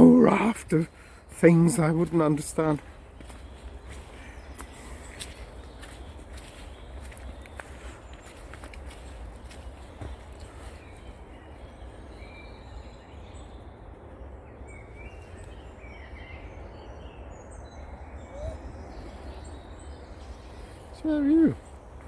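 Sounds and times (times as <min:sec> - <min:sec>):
wild birds singing: 0:00.0 - 0:22.0.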